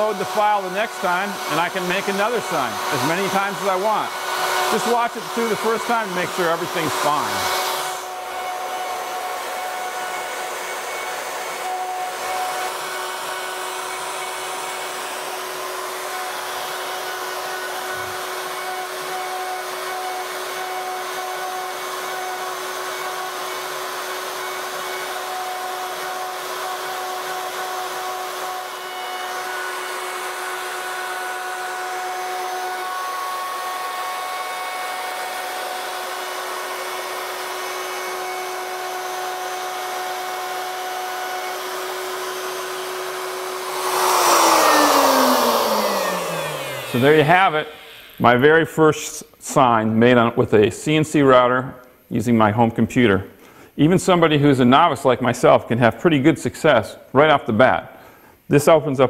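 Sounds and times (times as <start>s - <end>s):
router spindle whine: 0.0s - 48.6s.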